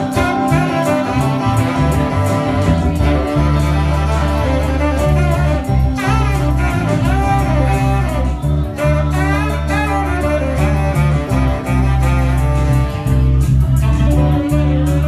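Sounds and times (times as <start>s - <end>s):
bass: 0.0s - 15.0s
drums: 0.0s - 15.0s
electric guitar: 0.0s - 15.0s
saxophone lead line: 0.0s - 15.0s.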